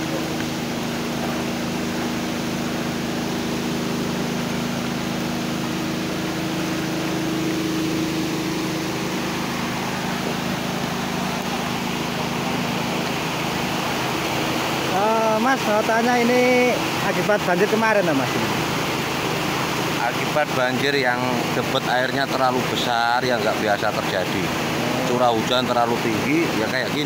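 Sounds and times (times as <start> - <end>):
low mechanical hum: 0.0 - 27.0
river rushing: 0.0 - 27.0.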